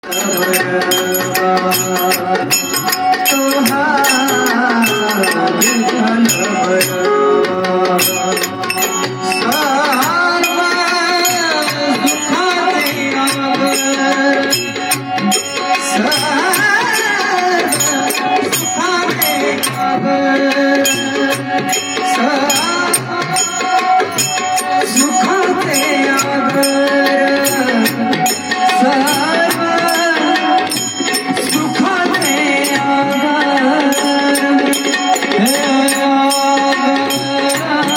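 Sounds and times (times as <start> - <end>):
man singing devotional song: 0.0 - 37.9
tabla rhythm: 0.0 - 37.9.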